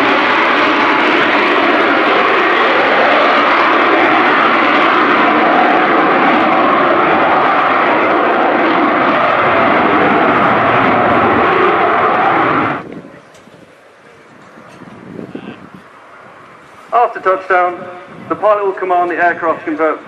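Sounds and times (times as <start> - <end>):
jet engine roaring: 0.0 - 20.0.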